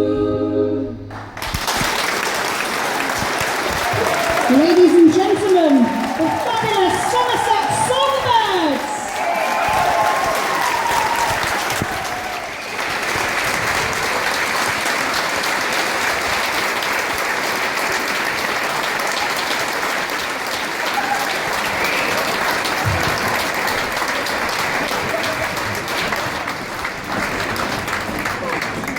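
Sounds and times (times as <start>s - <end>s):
audience applauding: 1.1s - 28.9s.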